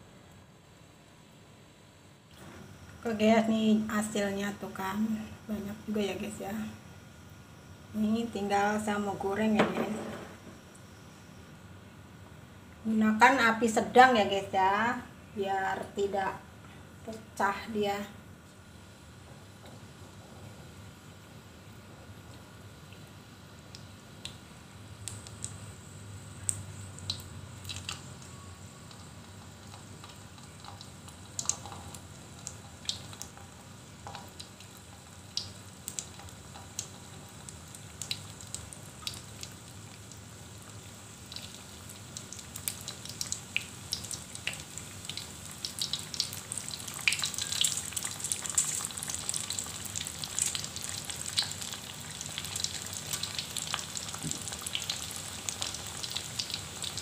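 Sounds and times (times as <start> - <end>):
deep-frying sizzle with pops: 2.3 - 14.9, 17.1 - 57.0.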